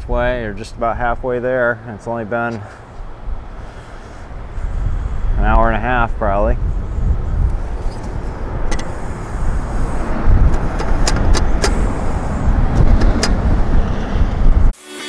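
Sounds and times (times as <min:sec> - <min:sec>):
wind buffeting the microphone: 0:00.0 - 0:14.8.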